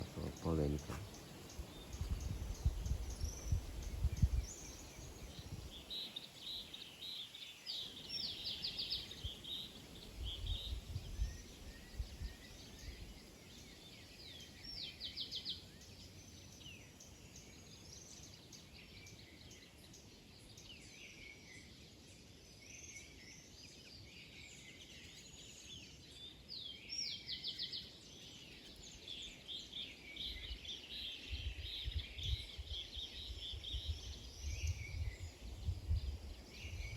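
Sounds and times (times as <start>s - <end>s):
small birds chirping and calling: 0.0s - 36.9s.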